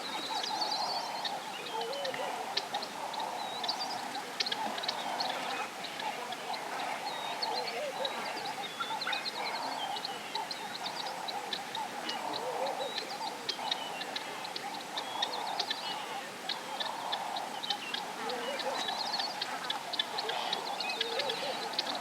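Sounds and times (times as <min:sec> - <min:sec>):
chorus of birds chirping: 0:00.0 - 0:22.0.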